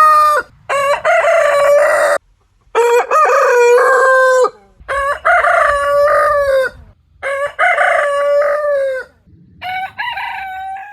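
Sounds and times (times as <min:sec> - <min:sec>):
rooster crowing: 0:00.0 - 0:02.2, 0:02.8 - 0:10.9.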